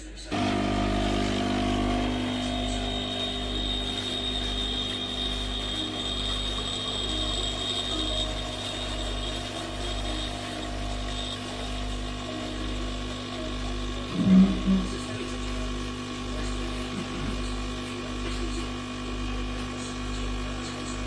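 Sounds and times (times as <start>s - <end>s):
espresso machine pump humming: 0.0s - 21.0s.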